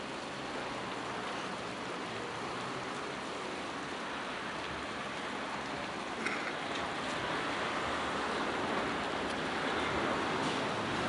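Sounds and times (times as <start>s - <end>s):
steady white noise hiss: 0.0s - 11.0s.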